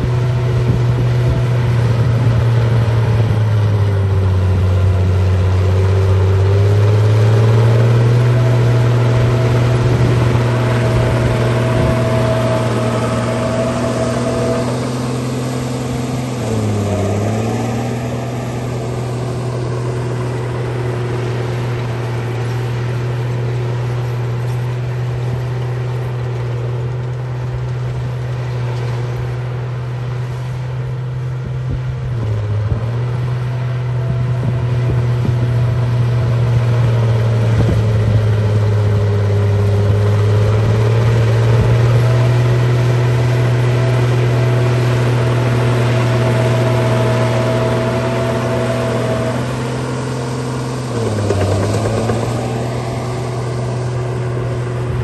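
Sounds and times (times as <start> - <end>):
bulldozer engine running: 0.0 - 55.0.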